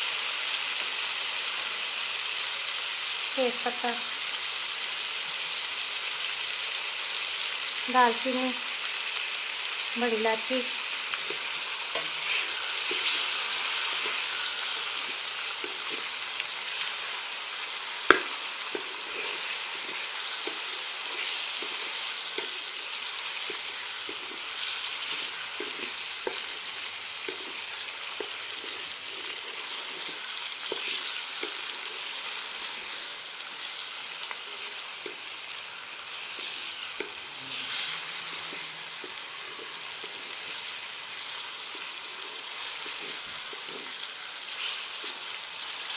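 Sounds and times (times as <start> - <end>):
chicken sizzling in hot oil: 0.0 - 45.9.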